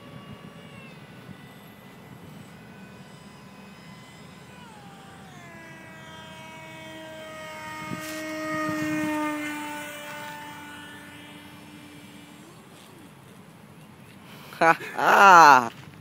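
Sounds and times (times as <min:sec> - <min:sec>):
model jet fan whining past: 0:00.0 - 0:16.0.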